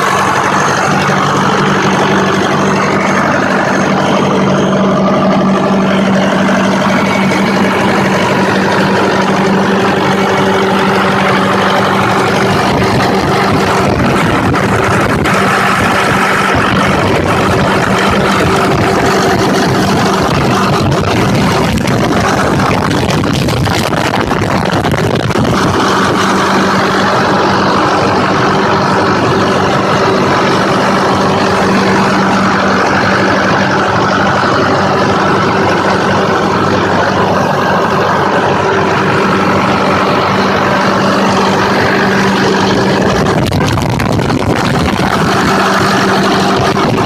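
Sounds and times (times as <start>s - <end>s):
diesel engine running steadily: 0.0s - 47.0s.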